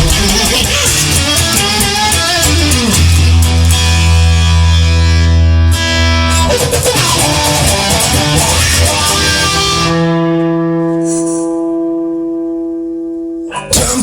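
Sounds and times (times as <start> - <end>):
rock guitar playing: 0.0 - 14.0.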